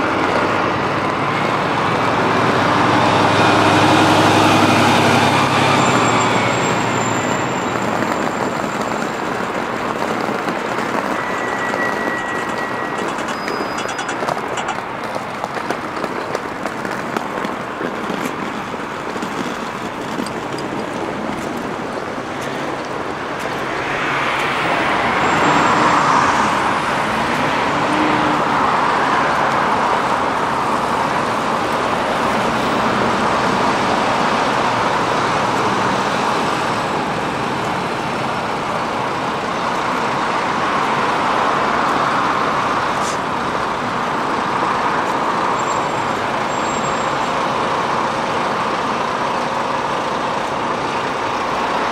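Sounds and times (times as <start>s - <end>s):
road traffic passing: 0.0s - 51.9s.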